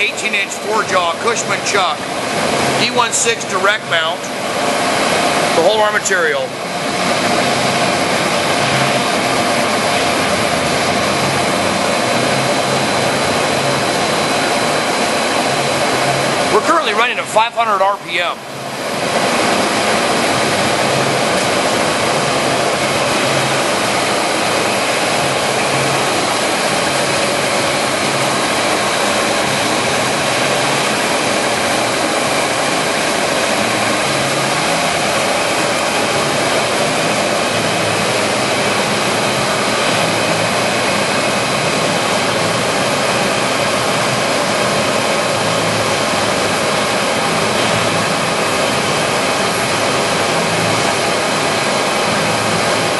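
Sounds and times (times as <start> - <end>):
lathe running with faint whine: 0.0 - 52.9.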